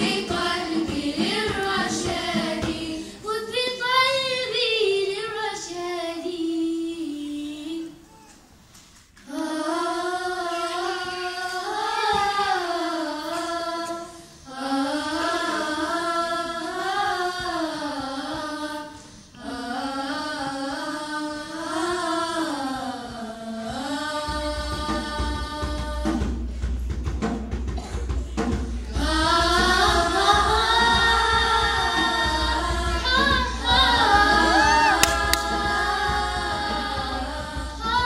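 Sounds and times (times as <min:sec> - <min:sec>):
girls singing in unison: 0:00.0 - 0:08.1, 0:09.2 - 0:26.7, 0:27.8 - 0:38.0.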